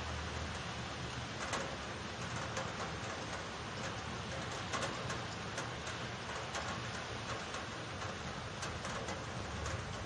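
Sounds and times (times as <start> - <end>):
heavy rain: 0.0 - 10.0
raindrops tapping near microphone: 0.0 - 10.0.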